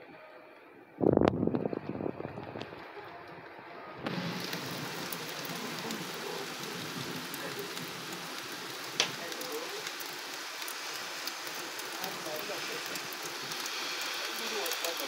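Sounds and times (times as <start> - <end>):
rain falling: 1.3 - 15.0.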